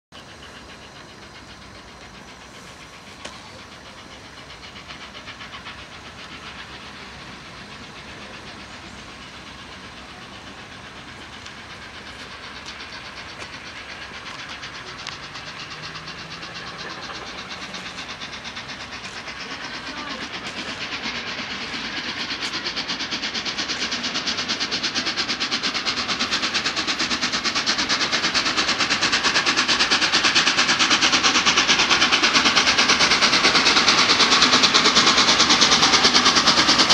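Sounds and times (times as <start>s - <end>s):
steam locomotive exhaust beat: 0.1s - 36.9s.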